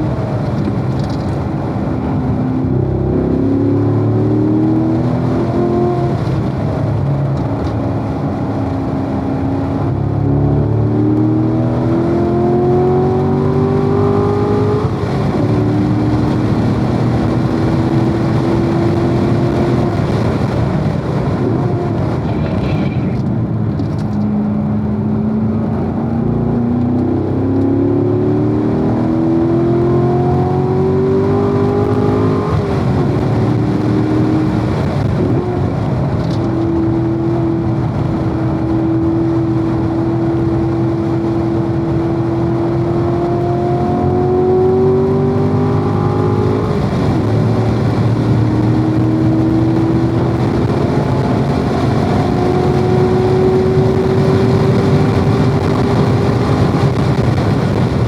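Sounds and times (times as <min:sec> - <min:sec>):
car engine revving at full throttle: 0:00.0 - 0:58.0
tyre and wind roar: 0:00.0 - 0:58.0.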